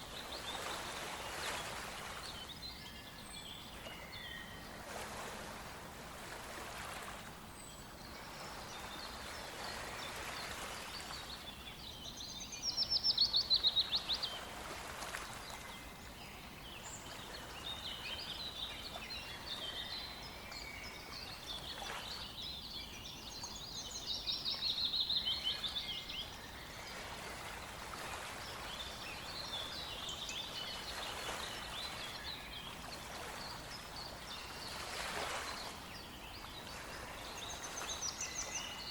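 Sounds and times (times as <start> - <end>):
songbirds singing: 0.0 - 5.6, 6.2 - 38.9.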